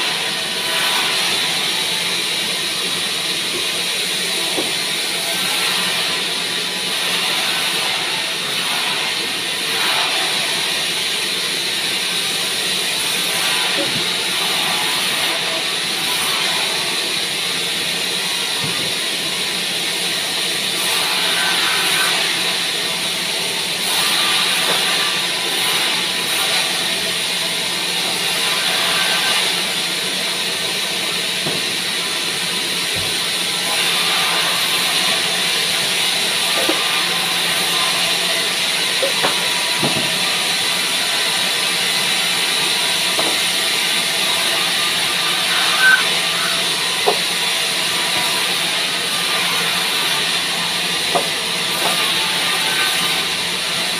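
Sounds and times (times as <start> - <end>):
band saw cutting log: 0.0 - 53.9.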